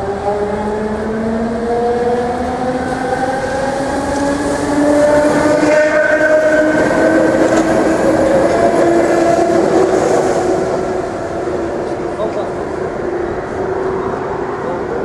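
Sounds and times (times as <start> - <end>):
wheel and track rumble: 0.0 - 15.0.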